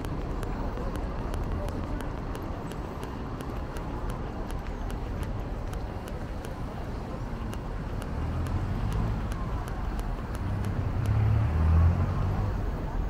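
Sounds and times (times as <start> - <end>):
steady traffic noise: 0.0 - 13.0
vehicle engine hum passing: 0.0 - 13.0.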